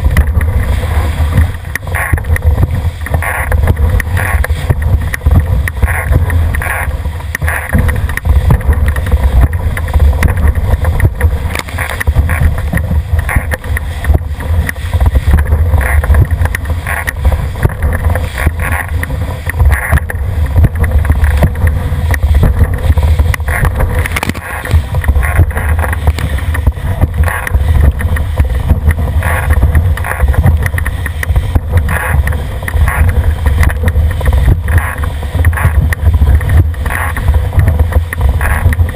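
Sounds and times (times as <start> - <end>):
spray splashing on hull: 0.0 - 38.9
water rushing along hull: 0.0 - 38.9
wind buffeting microphone: 0.0 - 38.9.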